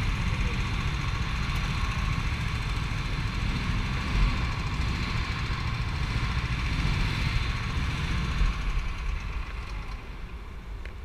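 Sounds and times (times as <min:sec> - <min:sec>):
go-kart engines idling: 0:00.0 - 0:10.9.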